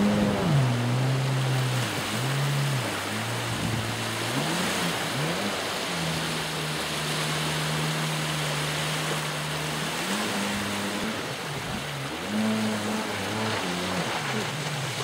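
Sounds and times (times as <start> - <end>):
jet ski engine running: 0.0 - 15.0.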